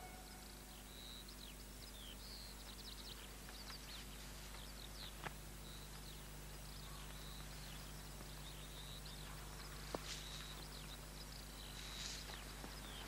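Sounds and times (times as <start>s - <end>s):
faint birdsong: 0.0s - 13.0s
steady low hum: 0.0s - 13.0s.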